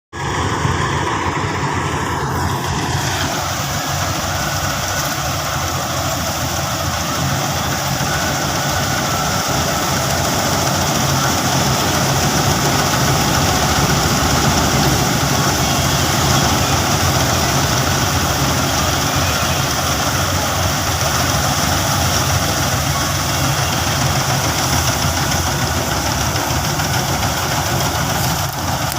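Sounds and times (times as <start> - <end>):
tractor diesel engine running: 0.1 - 28.9.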